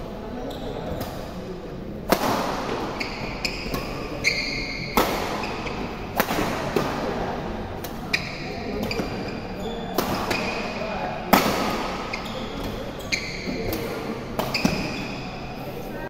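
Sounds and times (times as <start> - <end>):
shoes squeaking on court: 0.4 - 1.2, 2.6 - 7.2, 7.9 - 15.8
racket striking shuttlecock: 2.1 - 15.1.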